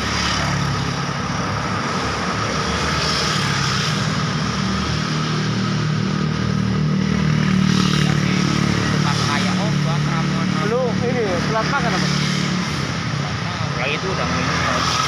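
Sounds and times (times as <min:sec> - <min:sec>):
engine passing close: 0:00.0 - 0:15.0
road traffic passing: 0:00.0 - 0:15.0.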